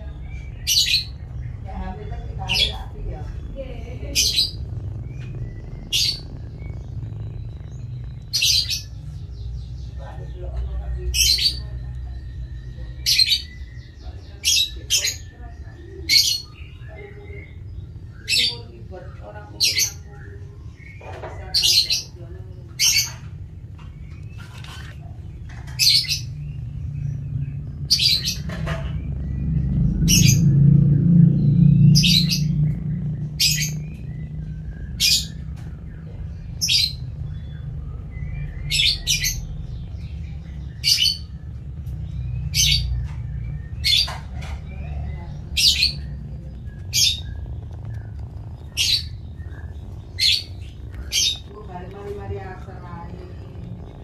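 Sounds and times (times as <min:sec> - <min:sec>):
bird chirping: 0:00.0 - 0:54.0
steady low rumble: 0:00.0 - 0:54.0.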